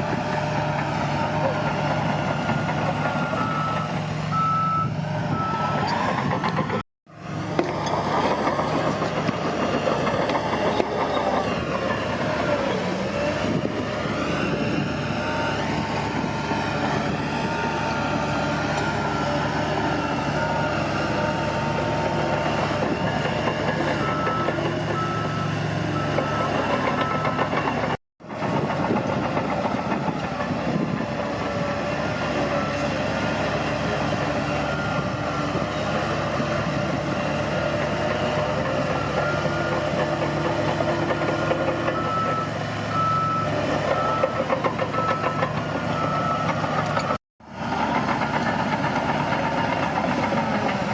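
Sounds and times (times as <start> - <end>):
bulldozer diesel engine: 0.0 - 50.9.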